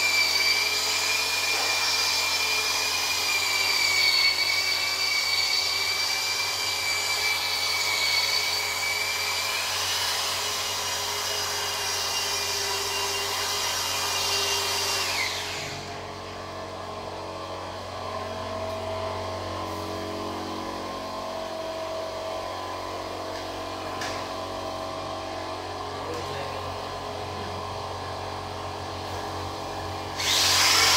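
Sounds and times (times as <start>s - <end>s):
polisher winding down: 0.0s - 25.2s, 29.1s - 30.9s
floor polishers motor whine: 0.0s - 30.9s.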